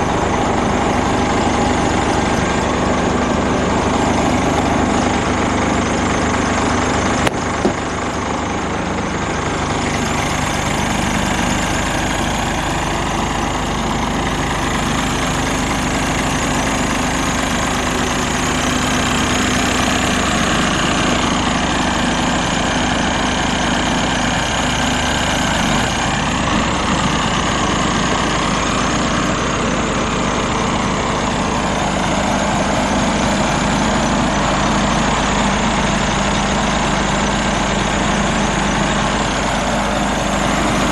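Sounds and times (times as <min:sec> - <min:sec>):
diesel truck idling: 0:00.0 - 0:40.9.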